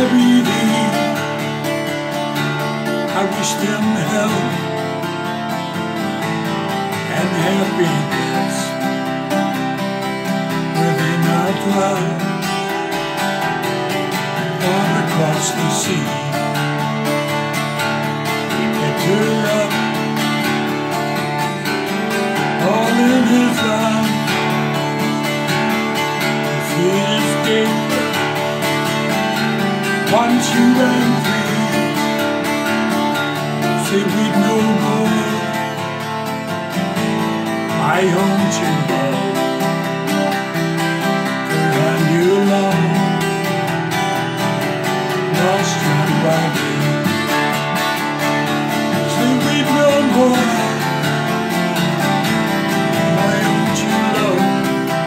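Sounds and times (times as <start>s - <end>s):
man singing folk song: 0.0s - 55.0s
strummed twelve-string guitar: 0.0s - 55.0s.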